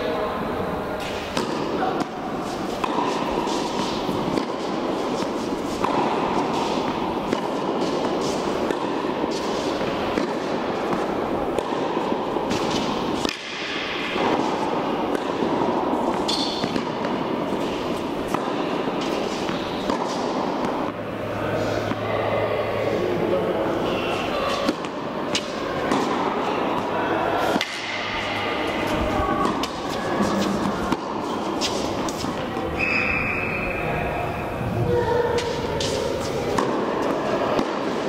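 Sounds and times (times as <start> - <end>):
tennis ball hit with rackets: 1.0 - 22.3, 24.1 - 32.8, 35.4 - 38.0.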